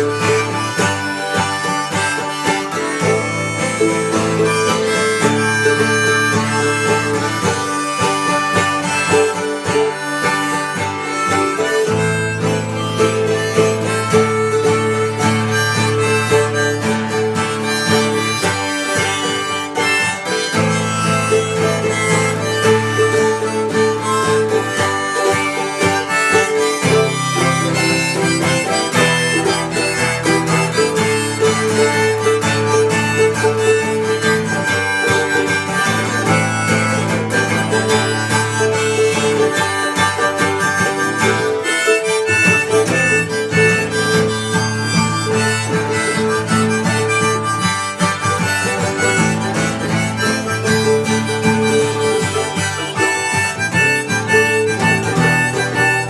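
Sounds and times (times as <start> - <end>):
harmonica melody: 0.0 - 56.0
strummed acoustic guitar: 0.0 - 56.0.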